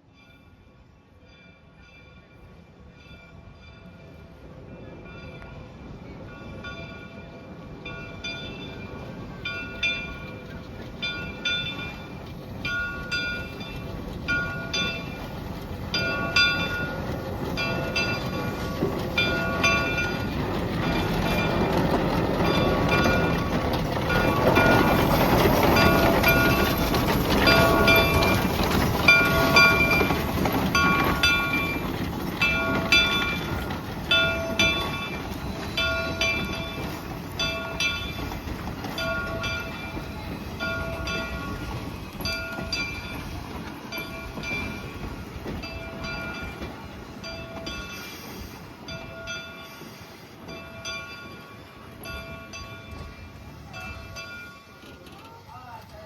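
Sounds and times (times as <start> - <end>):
locomotive bell ringing: 0.0 - 56.0
train rumble: 0.0 - 56.0.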